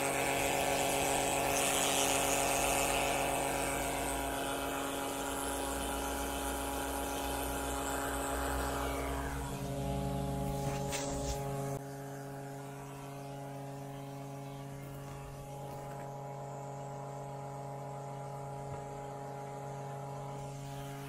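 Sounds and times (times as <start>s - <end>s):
electric pump buzzing hum: 0.0s - 21.0s.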